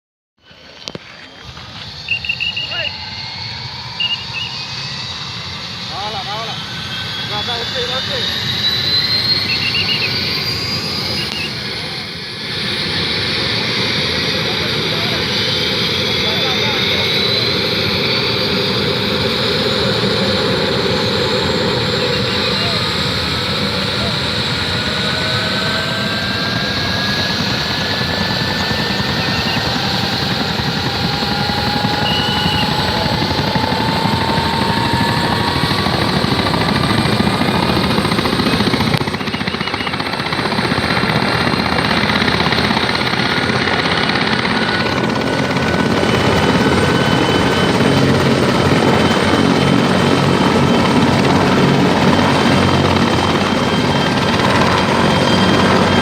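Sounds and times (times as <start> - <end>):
helicopter rotor and engine: 0.4 - 56.0.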